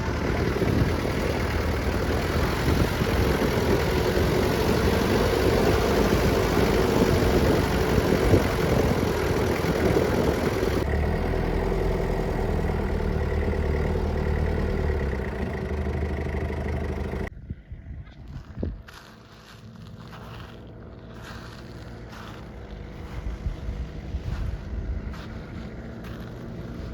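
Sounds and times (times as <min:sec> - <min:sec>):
car engine running: 0:00.0 - 0:26.9.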